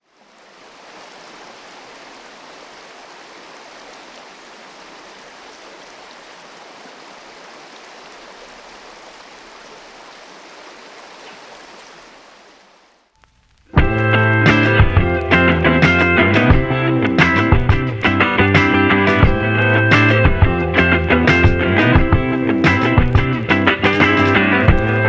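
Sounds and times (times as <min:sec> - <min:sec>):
stream water rushing: 0:00.0 - 0:13.1, 0:13.7 - 0:25.0.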